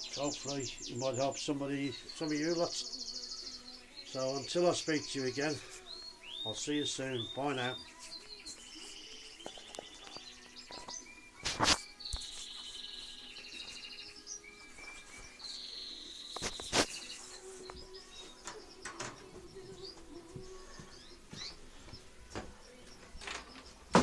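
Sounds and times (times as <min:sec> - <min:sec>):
finches twittering and trilling: 0:00.0 - 0:23.9.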